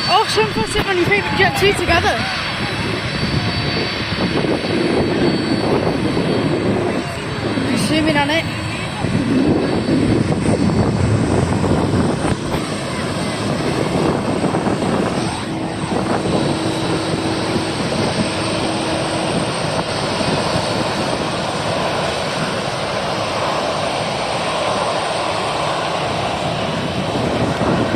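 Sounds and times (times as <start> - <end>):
jet engines rushing: 0.0 - 27.9.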